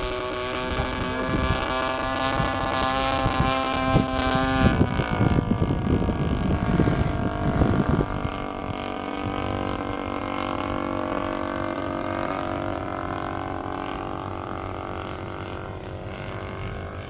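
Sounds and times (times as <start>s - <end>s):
model plane engine drone: 0.0s - 17.0s
wind buffeting microphone: 0.0s - 17.0s.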